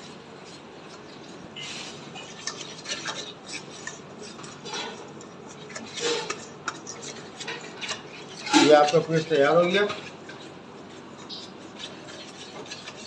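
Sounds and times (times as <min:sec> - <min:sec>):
whisk scraping metal bowl: 0:00.0 - 0:13.0.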